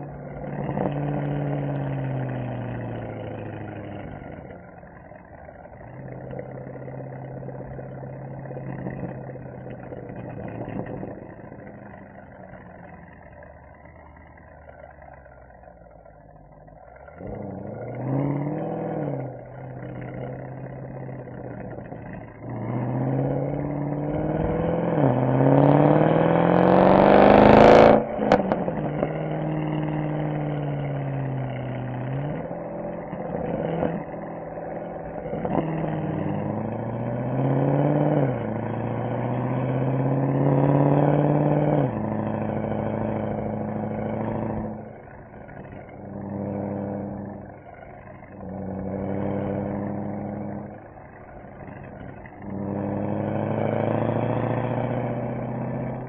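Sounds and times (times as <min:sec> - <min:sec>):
car exhaust accelerating: 0:00.0 - 0:56.0.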